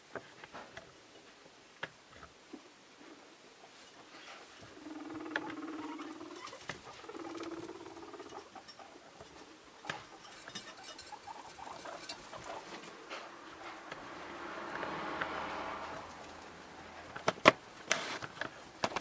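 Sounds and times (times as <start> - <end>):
guinea pigs pattering and clicking: 0.1 - 14.1, 15.9 - 19.0.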